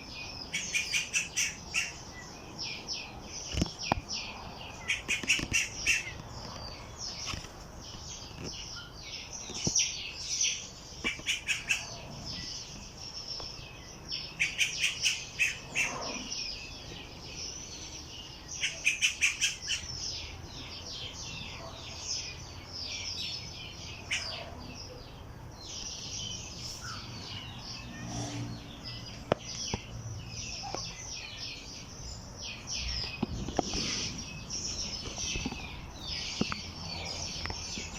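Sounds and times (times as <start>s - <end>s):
birds chirping and singing: 0.0s - 37.9s.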